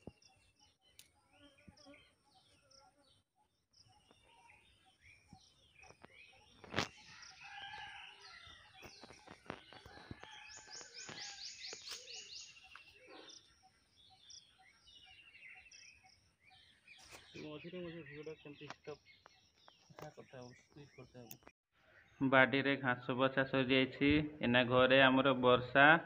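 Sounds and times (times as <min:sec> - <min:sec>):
birds chirping and calling: 0:00.0 - 0:22.3.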